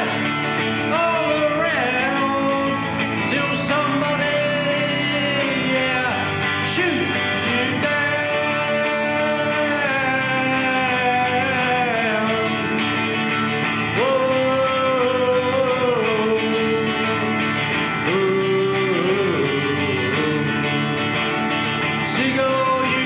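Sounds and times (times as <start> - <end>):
strummed acoustic guitar: 0.0 - 23.0.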